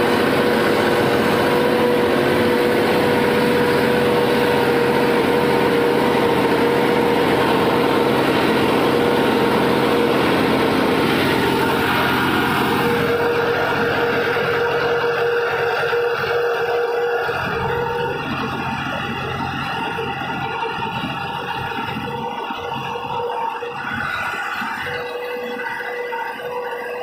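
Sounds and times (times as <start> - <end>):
steady whine: 0.0 - 27.0
tractor diesel engine running: 0.0 - 27.0.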